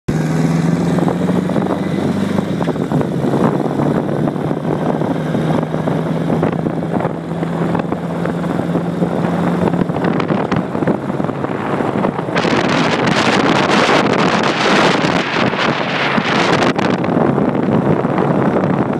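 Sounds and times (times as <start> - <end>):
motorcycle engine humming: 0.1 - 18.9
wind and road noise: 0.1 - 18.9.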